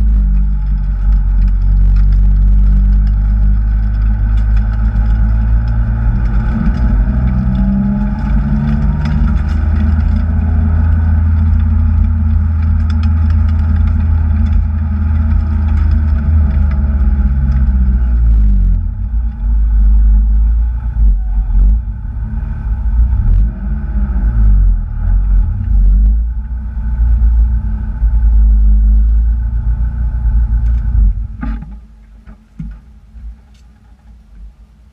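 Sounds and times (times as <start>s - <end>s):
car engine revving under load: 0.0s - 31.8s.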